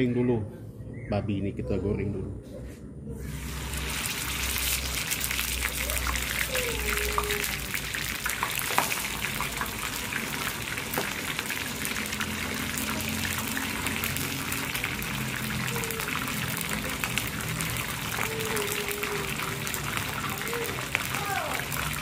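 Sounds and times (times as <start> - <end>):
pork sizzling in hot oil: 3.2 - 22.0.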